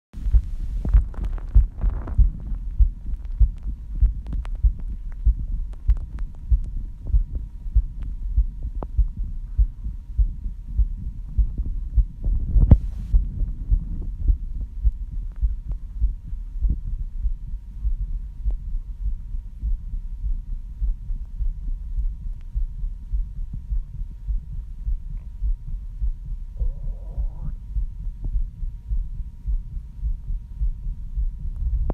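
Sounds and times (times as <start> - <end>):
heartbeat thumps: 0.2 - 31.9.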